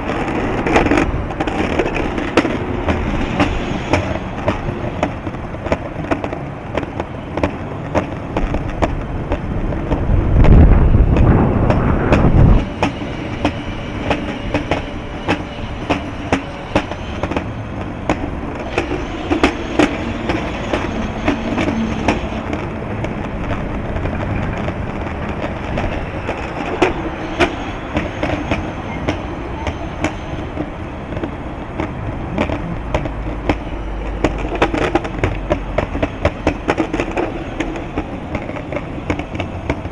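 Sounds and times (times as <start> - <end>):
continuous rolling rumble: 0.0 - 39.9
wind buffeting microphone: 0.0 - 39.9.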